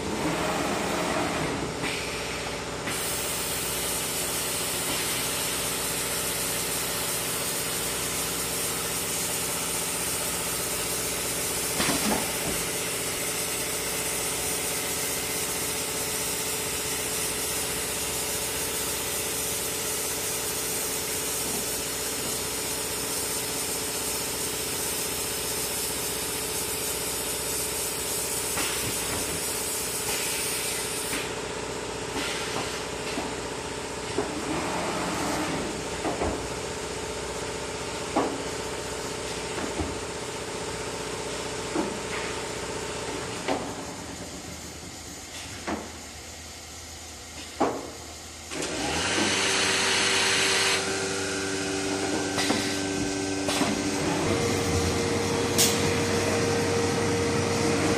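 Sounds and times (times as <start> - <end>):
machine hum with hiss: 0.0 - 57.9.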